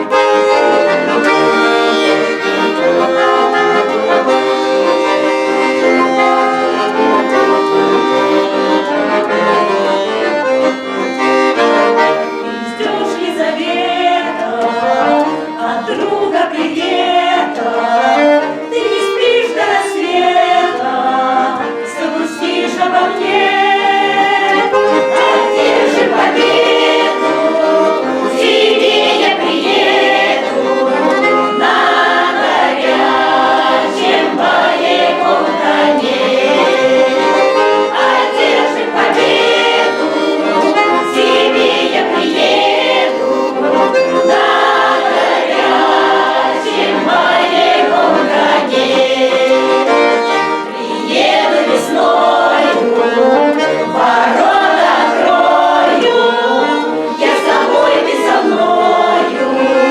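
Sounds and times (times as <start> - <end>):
accordion: 0.0 - 59.9
folk choir singing: 0.0 - 59.9.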